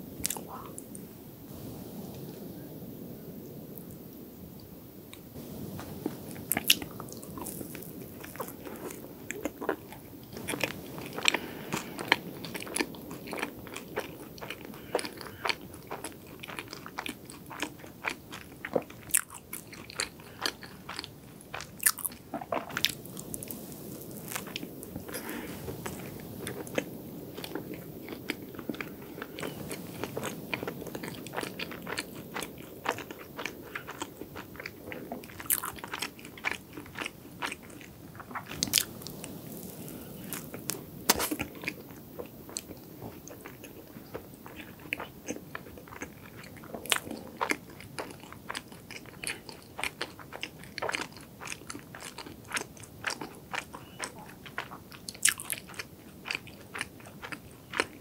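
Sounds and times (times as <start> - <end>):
soft moist chewing: 0.0 - 2.7, 3.8 - 58.0.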